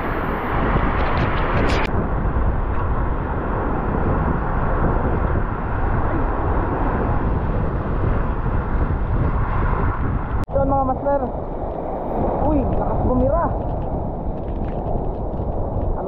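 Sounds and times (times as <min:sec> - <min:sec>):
heavy surf: 0:00.0 - 0:16.0
wind buffeting microphone: 0:00.0 - 0:16.0.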